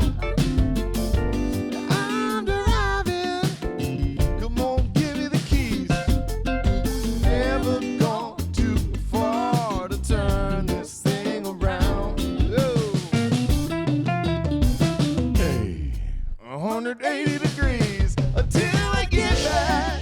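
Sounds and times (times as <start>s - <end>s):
soul-funk band playing: 0.0s - 15.8s, 17.1s - 20.0s.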